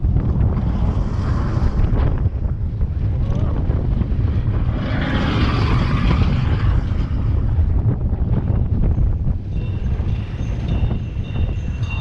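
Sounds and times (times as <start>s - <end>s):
roller coaster rumble: 0.0s - 12.0s
wind buffeting microphone: 0.0s - 12.0s.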